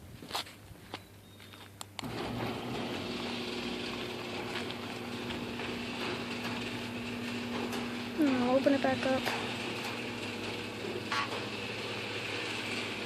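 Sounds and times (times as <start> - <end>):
garage door opener motor hum: 2.0 - 13.0.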